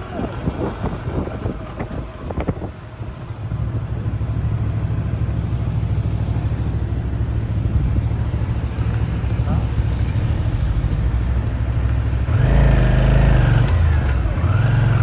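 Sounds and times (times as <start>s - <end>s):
road vehicle engine rumble: 0.0s - 15.0s.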